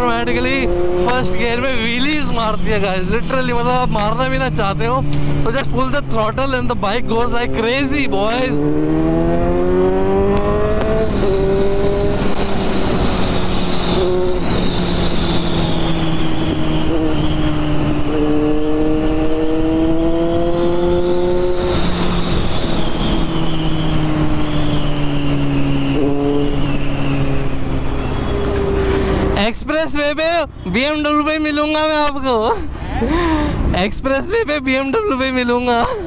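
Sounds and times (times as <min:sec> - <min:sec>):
motorcycle engine revving: 0:00.0 - 0:29.4
wind noise: 0:00.0 - 0:29.4.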